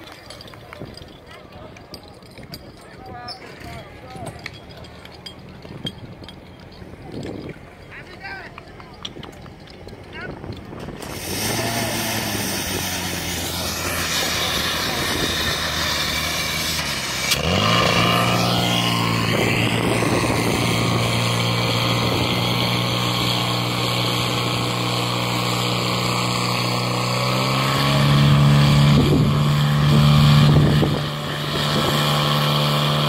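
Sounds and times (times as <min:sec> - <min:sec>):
fire pump engine revving: 0:04.4 - 0:33.0.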